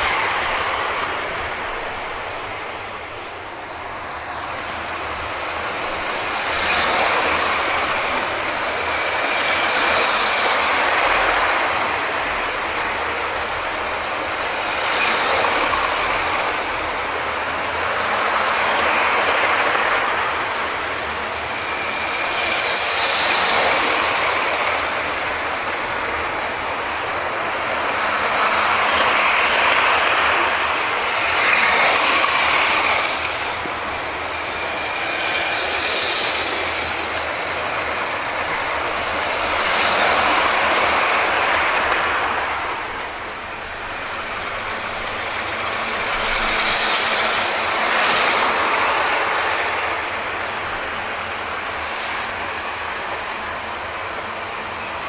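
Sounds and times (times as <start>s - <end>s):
faint high motor whine: 0.0s - 55.0s
model train motors whirring: 0.0s - 55.0s
wheels rattling on rails: 0.0s - 55.0s.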